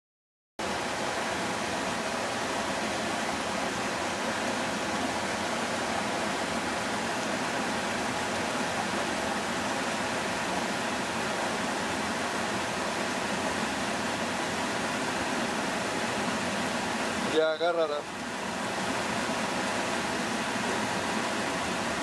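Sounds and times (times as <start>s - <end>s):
river rushing over rocks: 0.6s - 22.0s.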